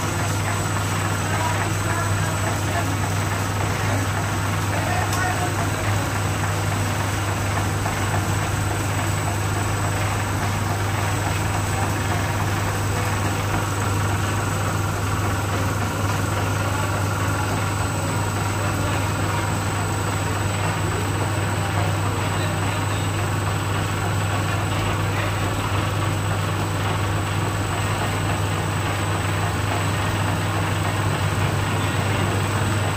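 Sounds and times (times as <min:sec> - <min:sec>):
printing machine running: 0:00.0 - 0:32.9.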